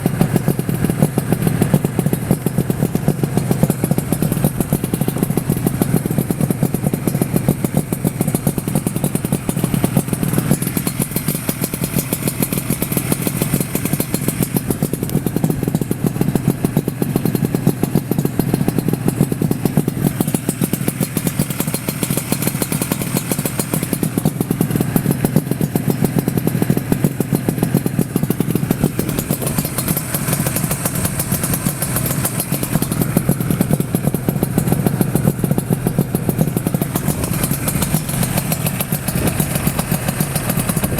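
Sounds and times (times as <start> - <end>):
two-stroke motorcycle engine running: 0.0 - 40.9.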